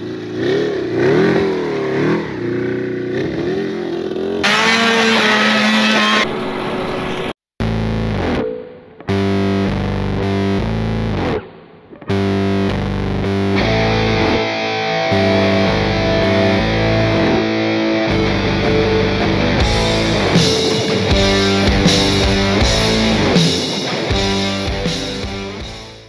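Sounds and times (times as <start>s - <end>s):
rock music with distorted guitar: 4.4s - 26.0s.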